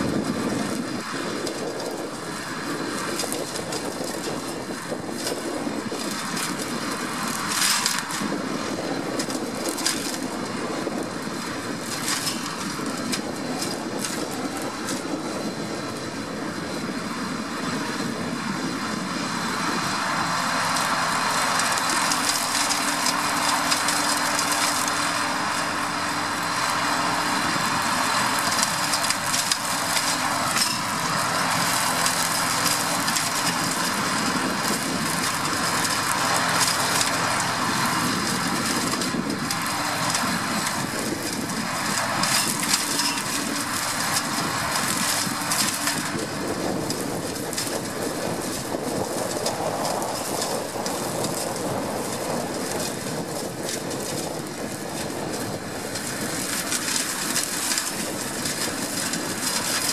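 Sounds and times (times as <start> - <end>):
hedge cutter chopping branches: 0.0 - 16.1, 19.4 - 59.9
tractor diesel engine running: 0.0 - 59.9.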